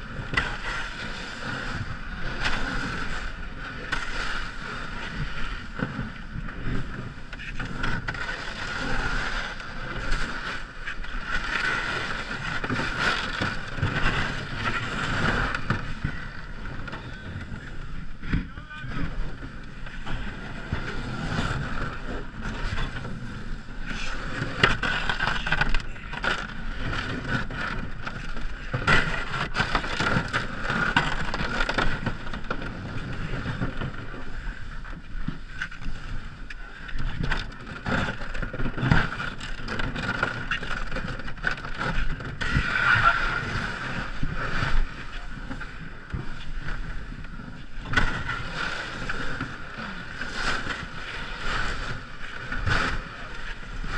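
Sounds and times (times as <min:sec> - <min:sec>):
water and slush splashing: 0:00.1 - 0:17.8, 0:20.0 - 0:34.6, 0:37.1 - 0:53.9.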